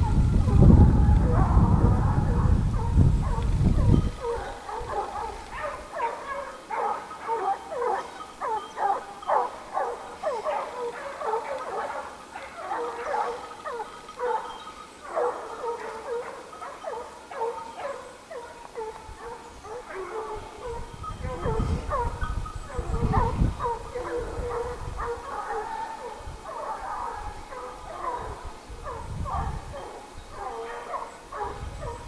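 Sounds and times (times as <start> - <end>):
hounds baying: 0.0 - 32.0.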